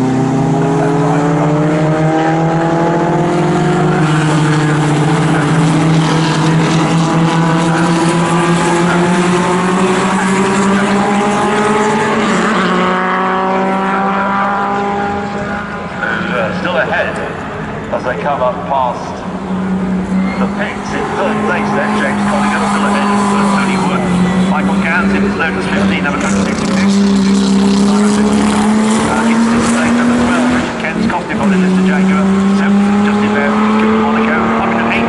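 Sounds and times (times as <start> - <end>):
racing car engines accelerating: 0.0 - 35.0.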